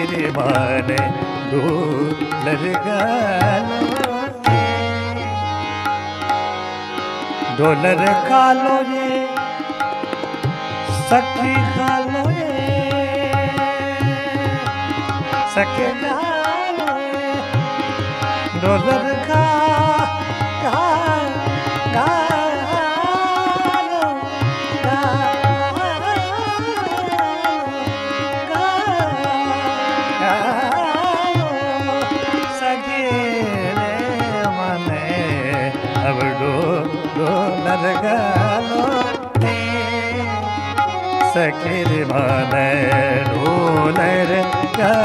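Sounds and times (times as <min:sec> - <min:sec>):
man singing: 0:00.0 - 0:06.4, 0:07.0 - 0:45.0
harmonium chords: 0:00.0 - 0:45.0
tabla playing a rhythm: 0:00.0 - 0:45.0.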